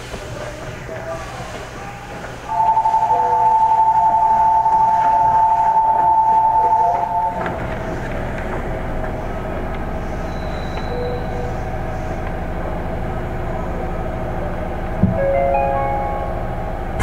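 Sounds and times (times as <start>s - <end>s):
train car hum and rumble: 0.0s - 17.0s.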